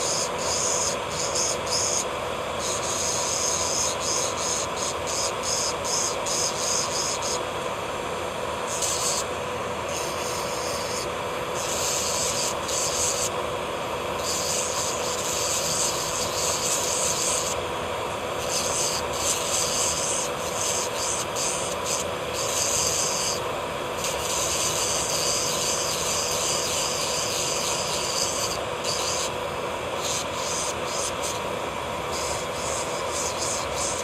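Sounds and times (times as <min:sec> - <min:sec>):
electric nail drill whining: 0:00.0 - 0:34.0.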